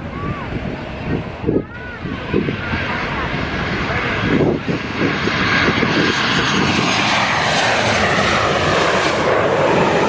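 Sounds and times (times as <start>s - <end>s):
airliner engine rush overhead: 0.0s - 10.0s.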